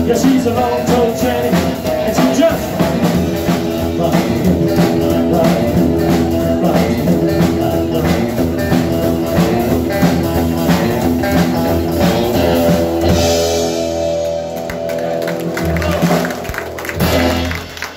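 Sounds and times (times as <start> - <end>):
drum kit beat: 0.0 - 17.9
electric guitar: 0.0 - 17.9
upright bass: 0.0 - 17.9.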